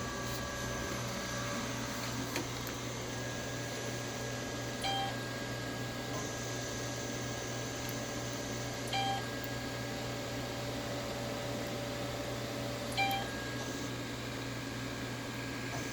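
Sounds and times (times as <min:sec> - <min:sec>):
machine hum: 0:00.0 - 0:15.9.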